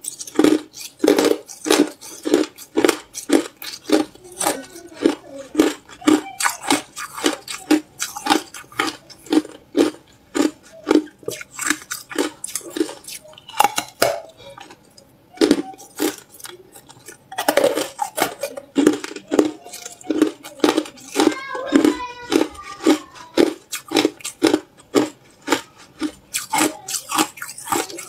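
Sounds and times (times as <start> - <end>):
ice being chewed: 0.0 - 28.0.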